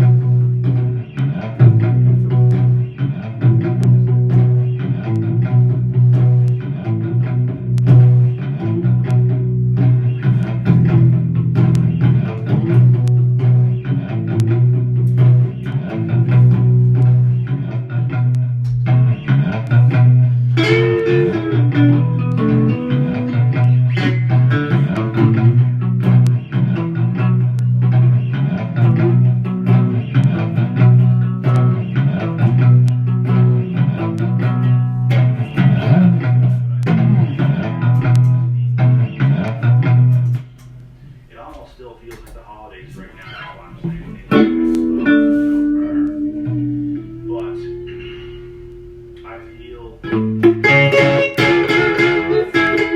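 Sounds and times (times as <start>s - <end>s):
guitar playing blues riff: 0.0s - 41.2s, 43.1s - 52.9s.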